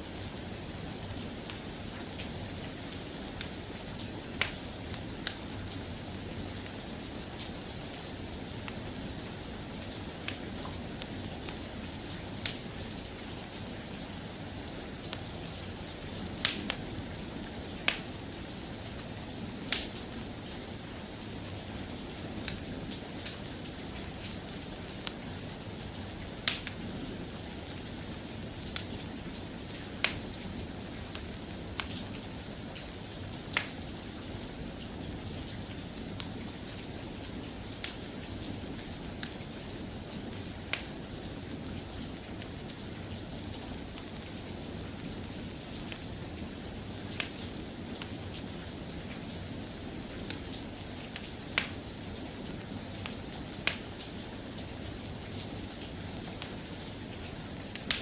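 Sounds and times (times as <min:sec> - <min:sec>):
soft rain: 0:00.0 - 0:58.0.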